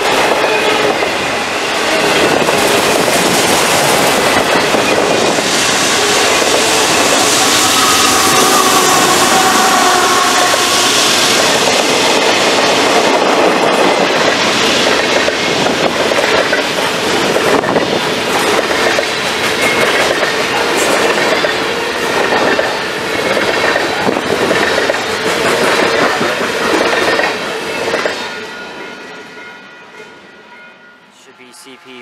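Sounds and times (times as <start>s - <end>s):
freight train wheels on rails: 0.0s - 32.0s.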